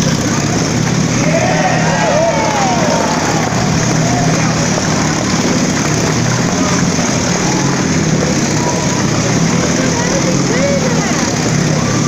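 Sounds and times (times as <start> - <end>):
motorcycle engines at high revs: 0.0 - 12.0.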